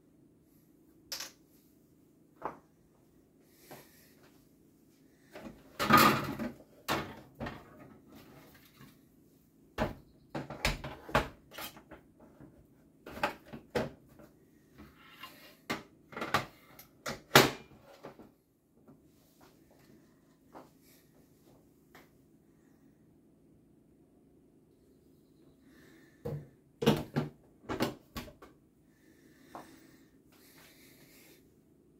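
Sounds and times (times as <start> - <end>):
faint steady hum: 0.0 - 31.9.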